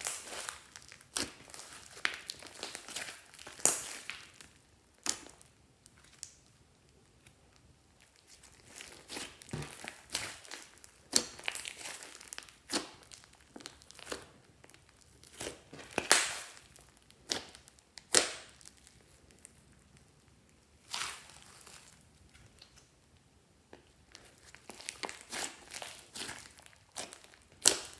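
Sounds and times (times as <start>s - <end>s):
slime squishing and popping: 0.0s - 20.0s, 23.8s - 27.9s.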